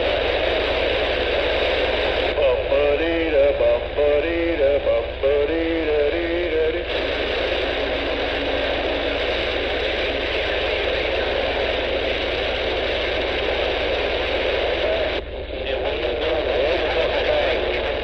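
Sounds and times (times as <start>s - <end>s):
low steady hum: 0.0s - 18.0s
radio static hiss: 0.0s - 18.0s.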